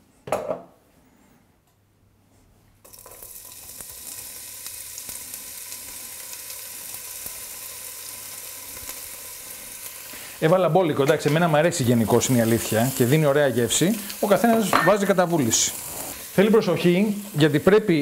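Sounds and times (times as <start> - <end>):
onion sizzling in oil: 2.8 - 18.0.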